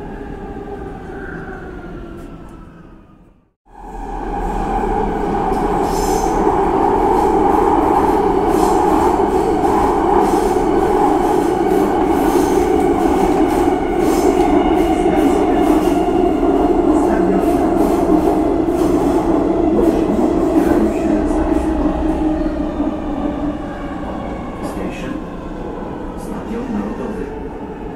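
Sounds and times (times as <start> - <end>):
subway train rumbling in tunnel: 0.0 - 27.9.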